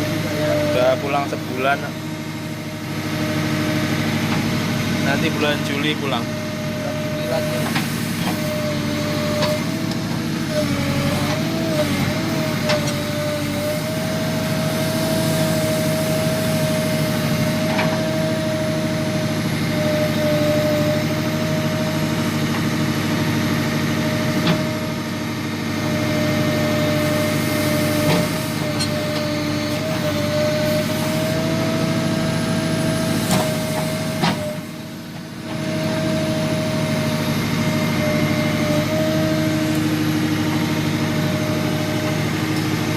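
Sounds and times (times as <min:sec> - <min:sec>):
backhoe engine running: 0:00.0 - 0:42.9.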